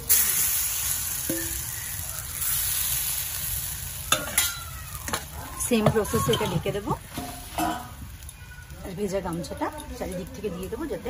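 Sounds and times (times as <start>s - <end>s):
batter sizzling in hot moulds: 0.0s - 11.0s.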